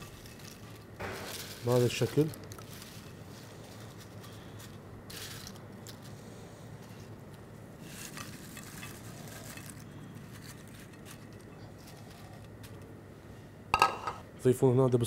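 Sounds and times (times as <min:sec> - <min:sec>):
crisp bread pieces rustling and clattering: 0:00.0 - 0:12.9
steady low hum: 0:00.0 - 0:15.0.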